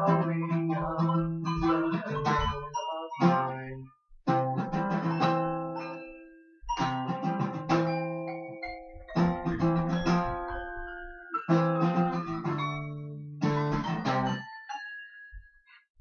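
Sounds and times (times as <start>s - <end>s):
acoustic guitar strummed chords: 0.0s - 14.4s.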